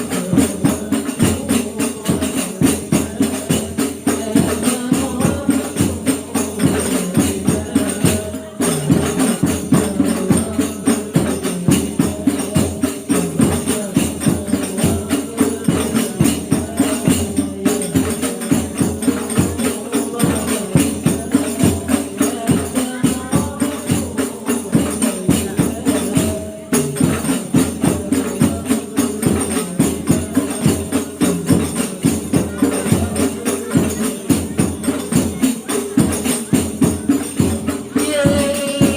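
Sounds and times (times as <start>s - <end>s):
frame drums playing fast rhythm: 0.0s - 38.9s.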